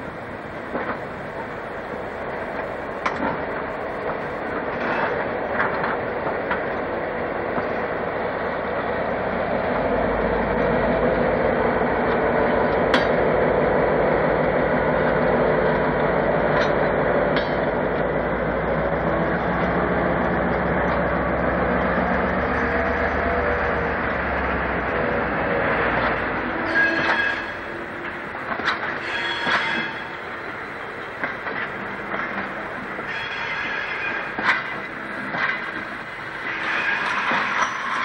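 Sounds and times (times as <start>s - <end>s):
diesel locomotive engine running: 0.0s - 38.0s
train wheels clicking on rail joints: 0.0s - 38.0s.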